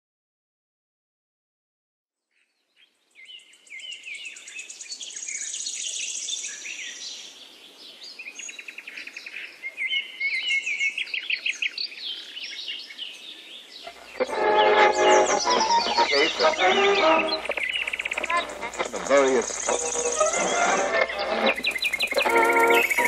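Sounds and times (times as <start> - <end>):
songbirds singing: 2.4 - 23.0.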